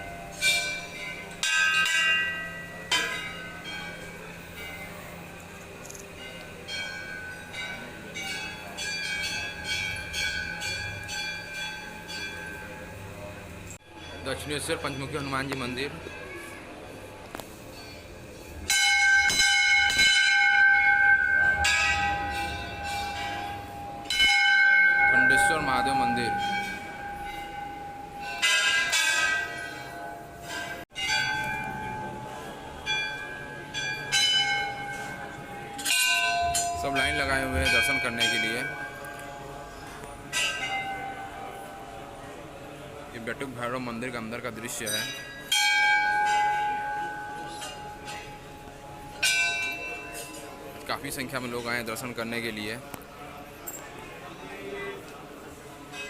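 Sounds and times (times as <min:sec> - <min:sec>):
temple bells ringing: 0:00.0 - 0:56.0.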